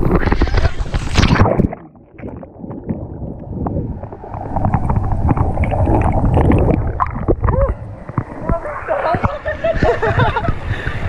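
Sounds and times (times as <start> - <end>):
bubbles ticking and popping: 0.0 - 9.5
muffled underwater water rush: 0.0 - 11.0.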